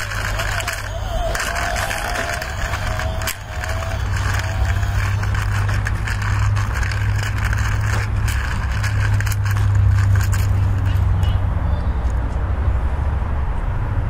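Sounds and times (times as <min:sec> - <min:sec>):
scraping clicks: 0:00.0 - 0:11.3
low engine drone: 0:00.0 - 0:13.4.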